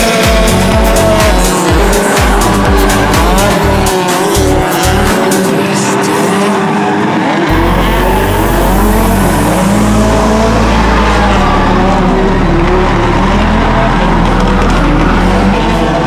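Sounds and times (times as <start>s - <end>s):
music with deep bass line: 0.0s - 5.6s, 7.5s - 16.0s
car engine running hard: 0.0s - 16.0s.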